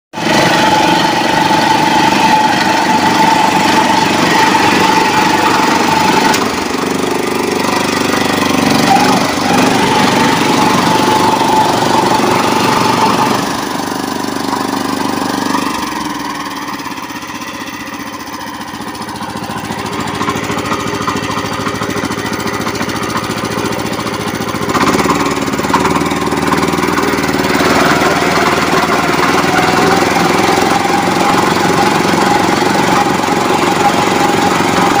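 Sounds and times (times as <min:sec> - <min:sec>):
power tiller engine running: 0:00.1 - 0:35.0
blades churning mud: 0:00.2 - 0:35.0.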